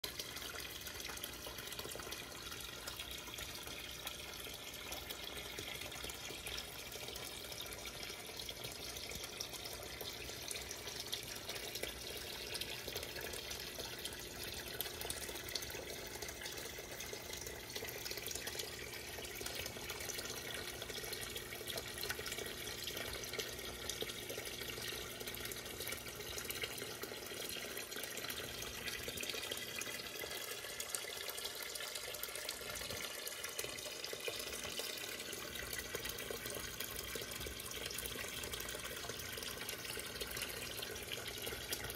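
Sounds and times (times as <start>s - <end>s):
water pouring into pond: 0.0s - 41.9s.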